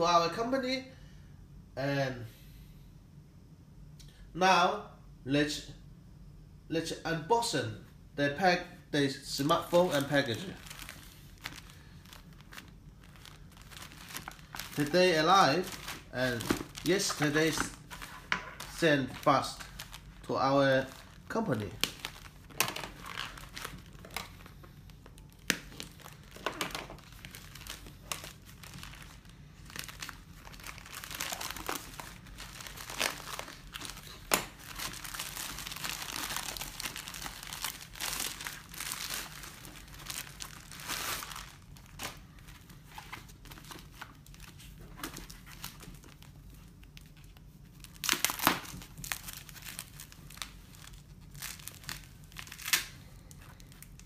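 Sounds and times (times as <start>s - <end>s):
plastic mailer bag crinkling and tearing: 9.4s - 54.0s.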